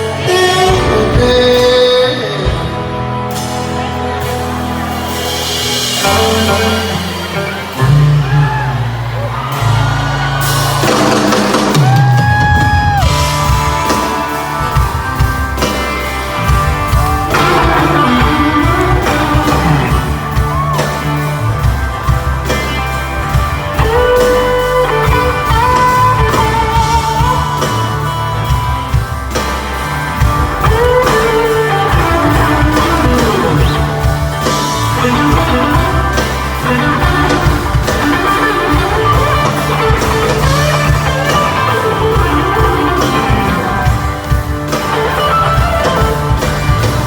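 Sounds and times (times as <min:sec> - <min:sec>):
electric guitar bending notes: 0:00.0 - 0:47.0
live rock band playing: 0:00.0 - 0:47.0.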